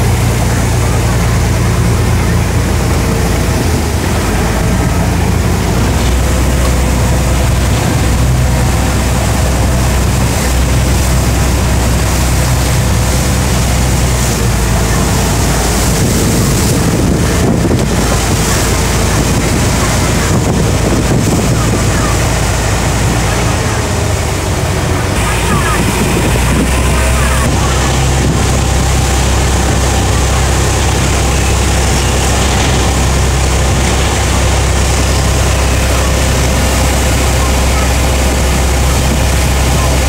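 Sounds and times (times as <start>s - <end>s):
ferry engine humming: 0.0s - 40.0s
water rushing past hull: 0.0s - 40.0s
wind buffeting microphone: 0.0s - 40.0s.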